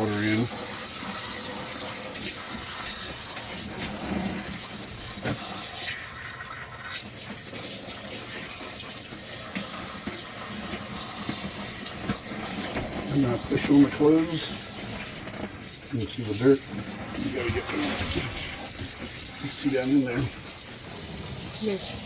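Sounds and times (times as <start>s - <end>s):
water running from a hose into a tub: 0.0s - 22.0s.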